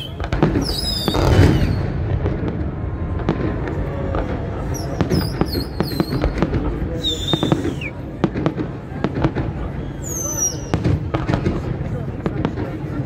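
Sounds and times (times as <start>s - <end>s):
deep fireworks boom: 0.0s - 13.0s
fireworks bursts and bangs: 0.0s - 13.0s.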